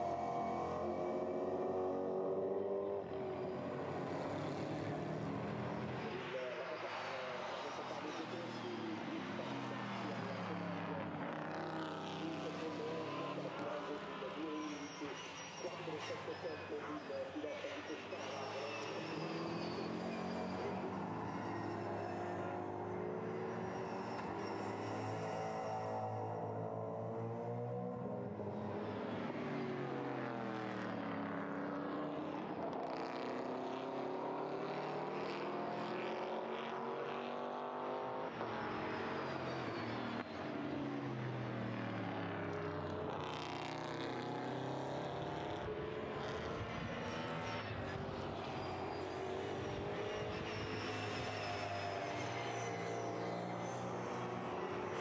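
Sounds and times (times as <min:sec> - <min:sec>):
racing car engines accelerating: 0:00.0 - 0:55.0.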